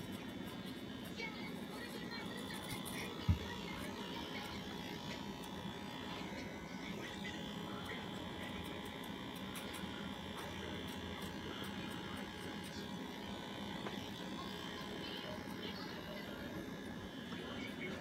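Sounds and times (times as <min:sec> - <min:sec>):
electric hair clippers buzzing: 0:00.0 - 0:18.0.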